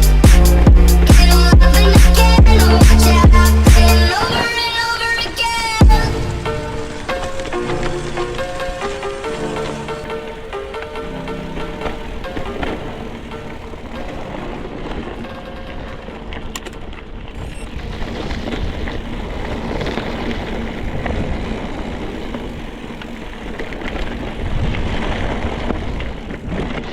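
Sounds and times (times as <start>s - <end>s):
bike rattling: 0.0s - 26.9s
wind rumbling on microphone: 0.0s - 26.9s.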